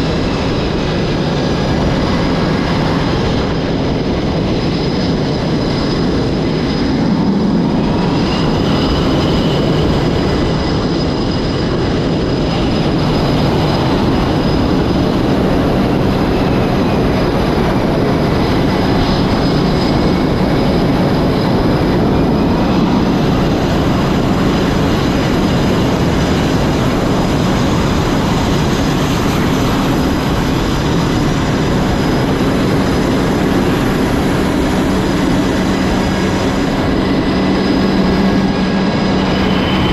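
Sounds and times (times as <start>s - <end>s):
faint high whine: 0.0s - 39.9s
jet engine noise: 0.0s - 39.9s.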